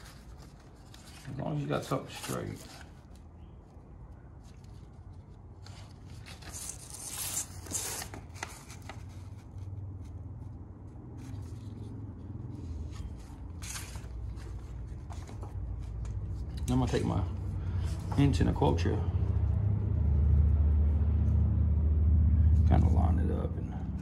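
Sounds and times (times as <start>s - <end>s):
paper rustling and scraping: 0.0s - 21.4s
steady low hum: 0.0s - 24.0s.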